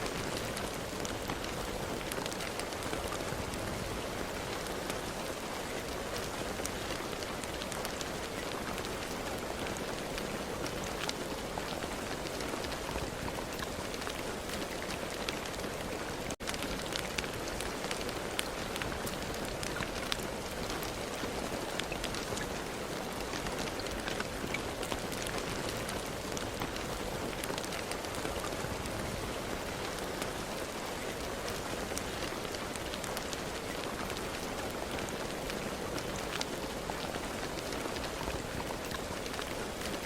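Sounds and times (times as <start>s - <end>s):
rain on a hard surface: 0.0s - 40.0s.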